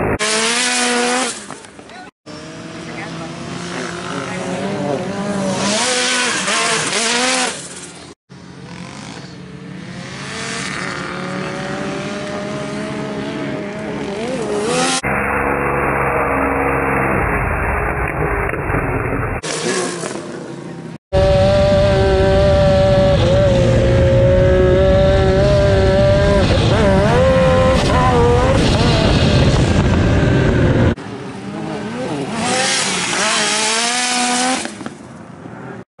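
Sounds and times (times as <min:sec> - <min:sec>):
engine at high revs: 0:00.0 - 0:34.9
distant engine accelerating: 0:00.0 - 0:35.0.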